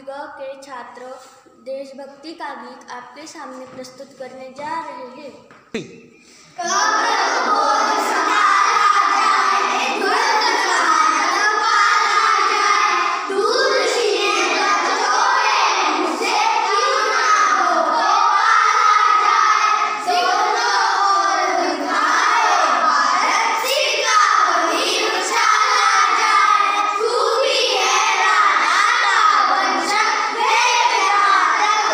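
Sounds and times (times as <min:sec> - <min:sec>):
children singing together: 0:06.3 - 0:31.9.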